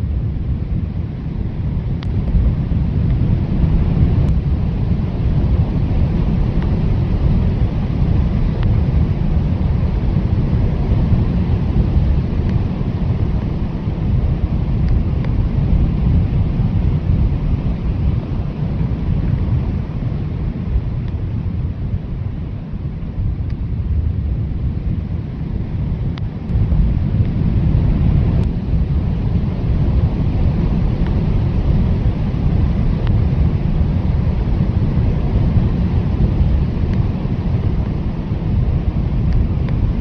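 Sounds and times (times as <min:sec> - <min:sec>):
blizzard wind blowing: 0:00.0 - 0:40.0
hiss of wind-driven snow: 0:00.0 - 0:40.0.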